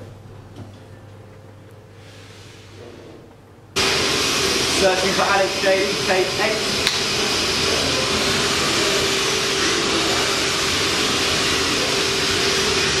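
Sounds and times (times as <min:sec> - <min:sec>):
workshop equipment whirring: 0:00.0 - 0:13.0.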